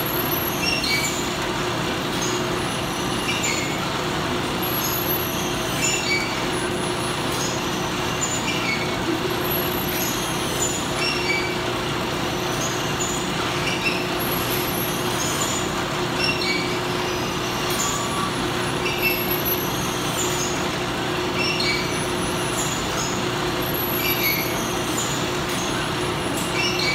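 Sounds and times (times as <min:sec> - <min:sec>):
factory machinery humming: 0:00.0 - 0:26.7.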